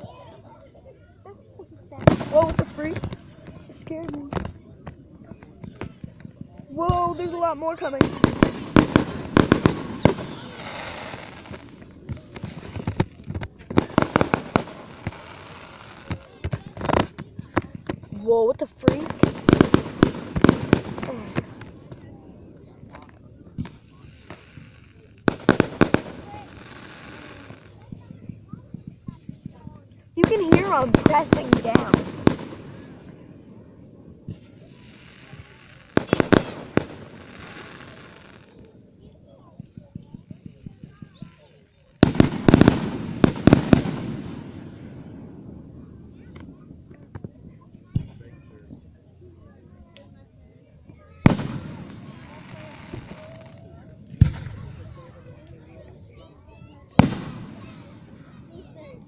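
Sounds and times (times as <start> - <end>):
fireworks crackle: 1.6 - 59.0
fireworks bangs: 1.9 - 59.0.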